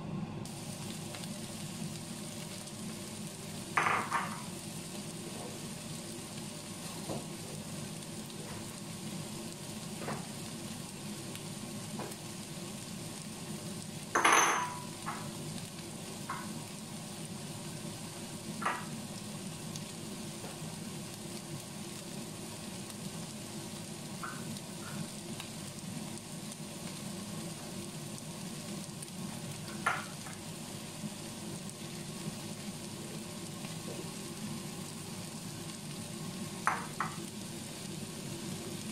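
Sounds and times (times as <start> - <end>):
food sizzling in frying pan: 0.4 - 38.9.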